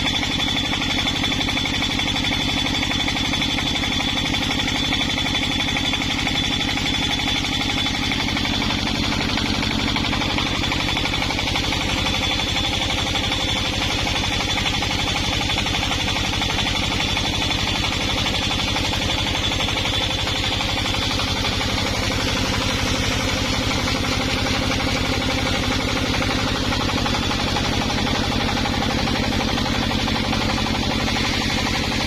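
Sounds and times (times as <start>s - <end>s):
small engine running steadily: 0.0s - 32.0s.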